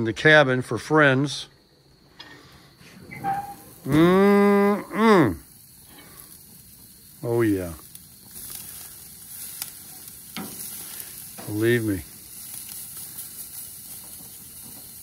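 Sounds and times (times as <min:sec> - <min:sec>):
steaks sizzling on a grill: 0:02.2 - 0:15.0.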